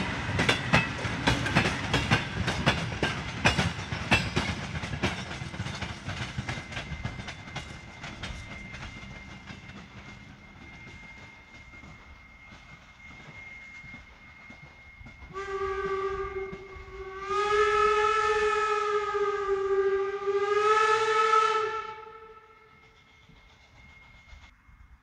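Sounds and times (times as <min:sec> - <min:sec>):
steam locomotive whistle: 0:00.0 - 0:24.5
distant train running: 0:00.0 - 0:25.0.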